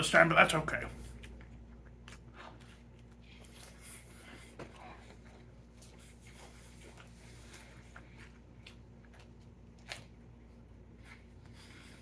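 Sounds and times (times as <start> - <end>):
chewing sandwich: 0.9 - 12.0.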